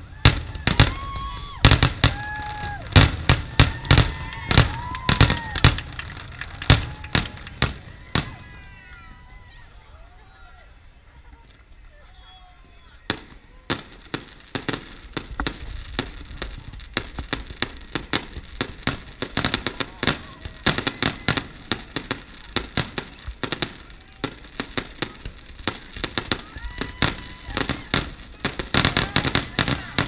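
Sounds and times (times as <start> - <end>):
fireworks bangs and crackles: 0.0 - 9.6, 11.0 - 30.0.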